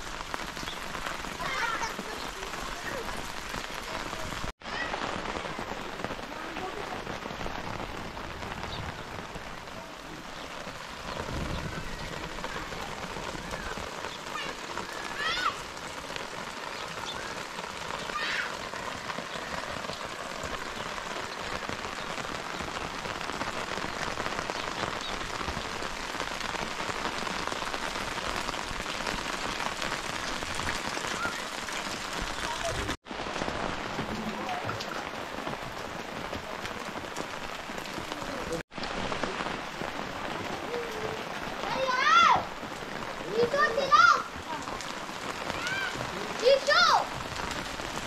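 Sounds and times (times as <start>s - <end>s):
heavy rain hissing: 0.0s - 48.0s.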